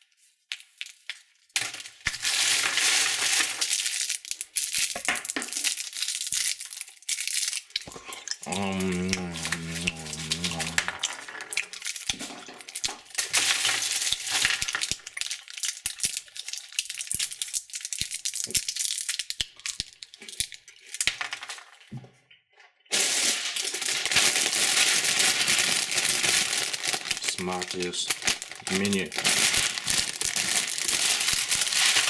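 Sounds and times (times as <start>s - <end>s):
plastic wrappers crinkling: 0.0s - 21.9s, 22.9s - 32.0s
candies clicking together: 0.5s - 21.8s, 23.4s - 32.0s.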